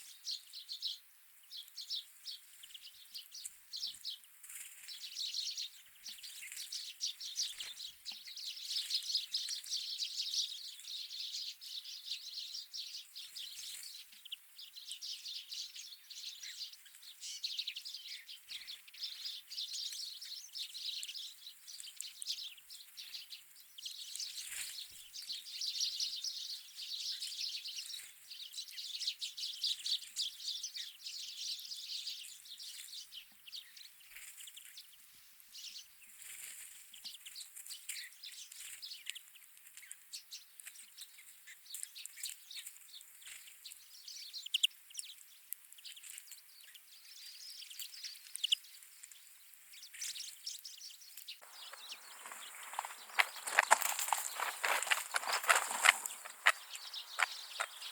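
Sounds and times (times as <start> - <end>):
wild birds chirping: 0.0 - 57.9.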